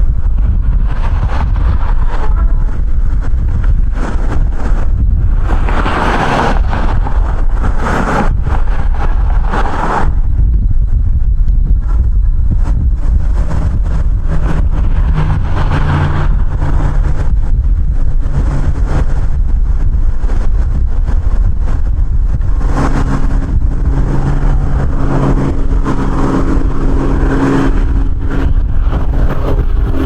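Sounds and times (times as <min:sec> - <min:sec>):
engine hum: 0:00.0 - 0:30.0
wind buffeting microphone: 0:00.0 - 0:30.0.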